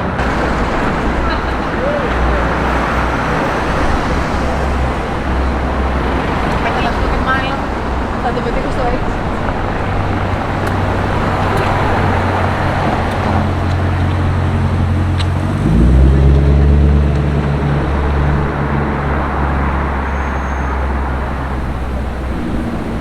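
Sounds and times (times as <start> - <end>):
deep engine note rising: 0.0 - 23.0
street traffic: 0.0 - 23.0.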